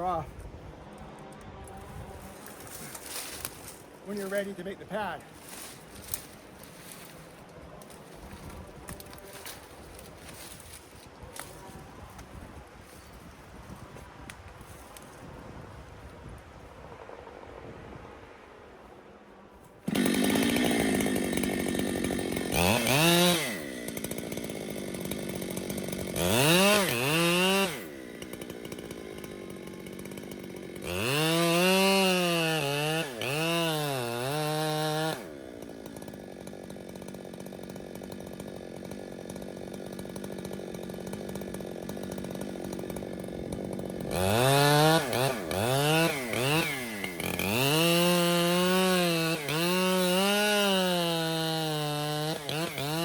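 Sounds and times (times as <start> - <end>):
chainsaw revving and cutting: 0.9 - 12.2, 19.8 - 53.0.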